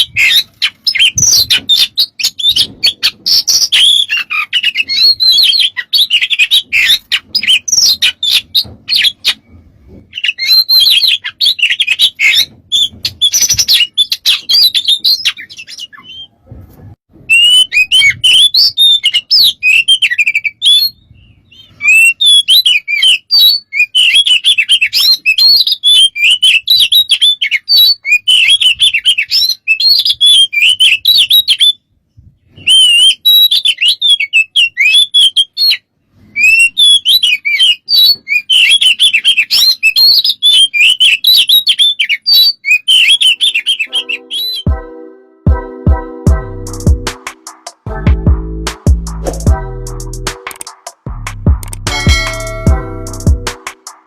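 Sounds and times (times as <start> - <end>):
songbird singing whistles and chatters: 0.0 - 16.5, 17.2 - 44.7.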